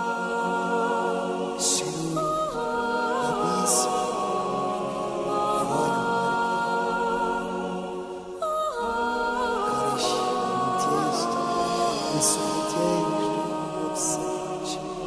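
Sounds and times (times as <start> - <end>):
voices singing held chords: 0.0 - 15.0.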